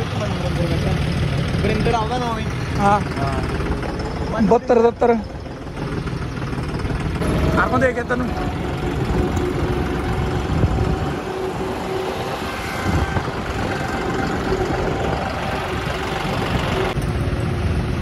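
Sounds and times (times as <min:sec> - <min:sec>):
tractor diesel engine rumbling: 0:00.0 - 0:18.0.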